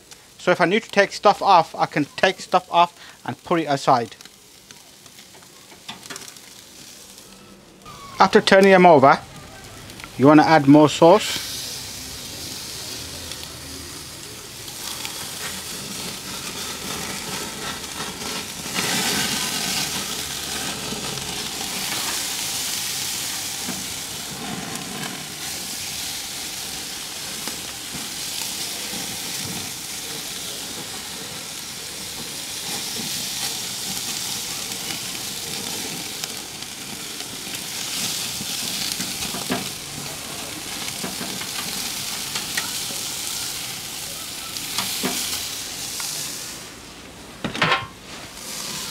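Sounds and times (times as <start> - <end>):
chicken sizzling on charcoal grill: 0.0 - 48.9.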